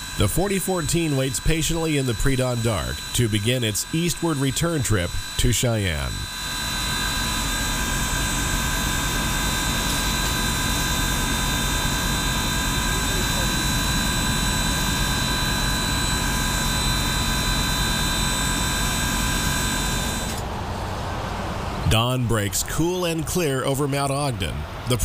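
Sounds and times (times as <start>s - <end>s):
steam locomotive hissing: 0.0s - 21.0s
high whining tones: 0.0s - 25.0s.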